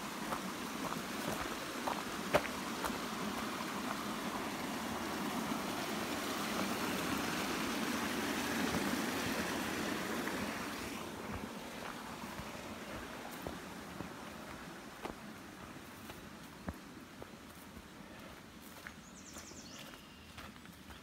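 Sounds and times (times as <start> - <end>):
stream water rushing: 0.0 - 18.9.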